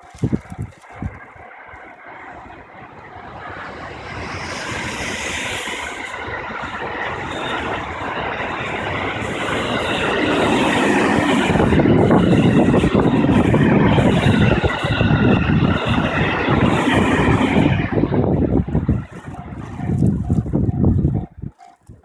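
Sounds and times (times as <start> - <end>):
electric train passing: 0.0 - 21.2.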